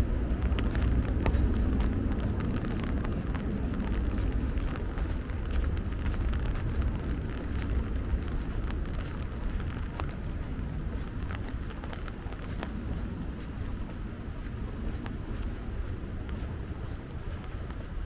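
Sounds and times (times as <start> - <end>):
low rain rumble: 0.0 - 18.0.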